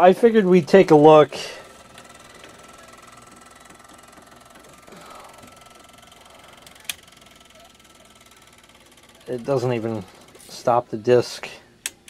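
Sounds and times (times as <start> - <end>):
disc drive whirring: 0.0 - 12.0.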